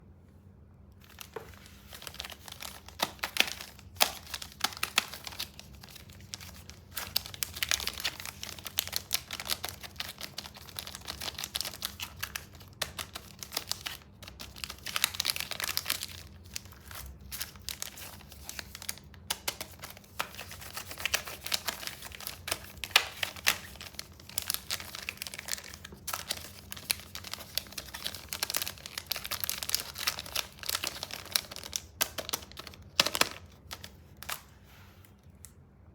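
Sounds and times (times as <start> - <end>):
candy wrappers crinkling and tearing: 1.0 - 34.5.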